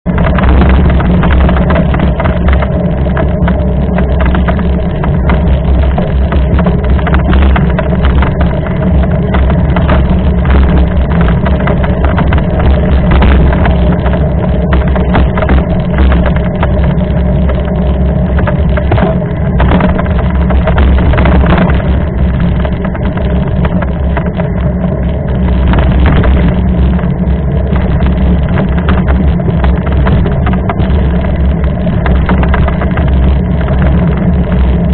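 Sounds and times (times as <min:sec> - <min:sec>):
wind rumble on microphone: 0:00.0 - 0:34.9
bike knocks and rattles: 0:00.1 - 0:34.9.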